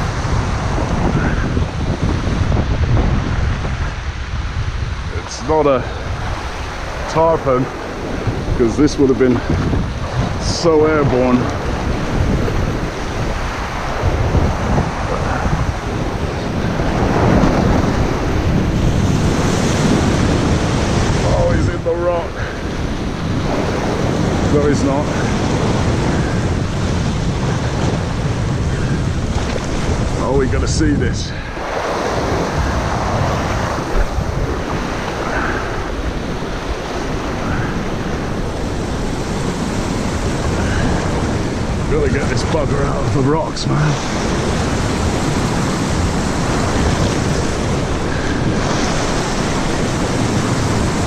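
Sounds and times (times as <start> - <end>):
waves washing on shore: 0.0 - 51.0
wind buffeting microphone: 0.0 - 51.0.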